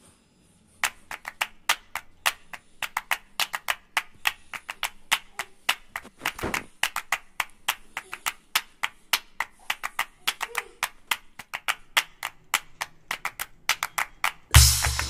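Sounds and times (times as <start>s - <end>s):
hands working dough on a mat: 0.8s - 14.6s.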